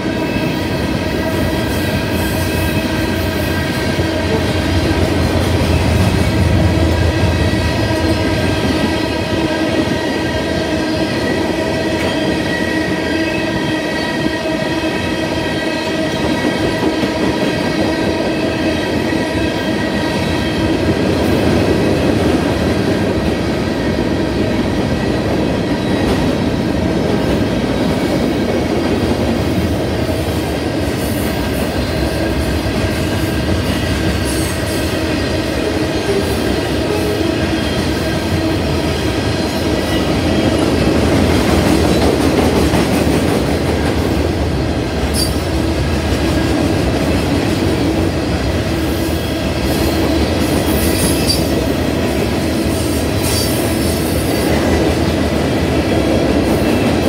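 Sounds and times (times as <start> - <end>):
freight train rolling: 0.0 - 57.0.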